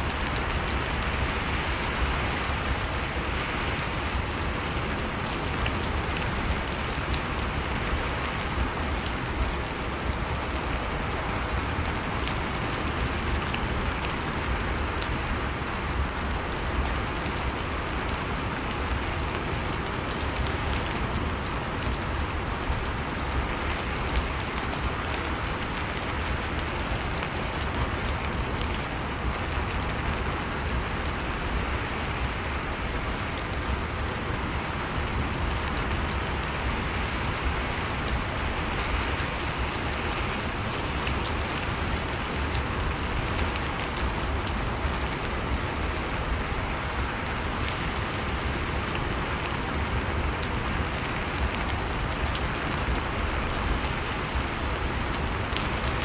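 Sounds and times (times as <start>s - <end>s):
rain hiss: 0.0s - 56.0s
raindrops pattering: 0.0s - 56.0s.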